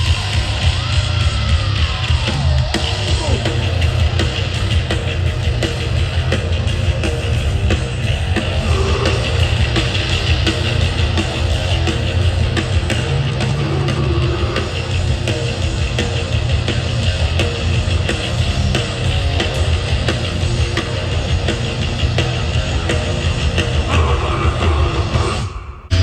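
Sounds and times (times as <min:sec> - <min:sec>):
distorted guitars and bass: 0:00.0 - 0:26.0
fast drumming: 0:00.0 - 0:26.0.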